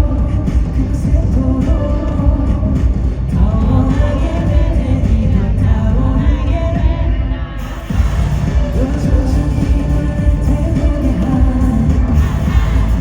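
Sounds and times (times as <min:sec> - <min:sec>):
person singing: 0:00.0 - 0:13.0
pop backing track with heavy bass: 0:00.0 - 0:13.0.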